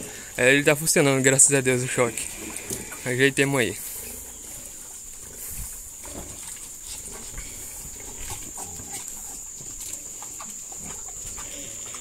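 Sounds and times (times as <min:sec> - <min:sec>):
pigs grunting: 0:00.0 - 0:12.0
pigs slurping and snuffling: 0:00.0 - 0:12.0.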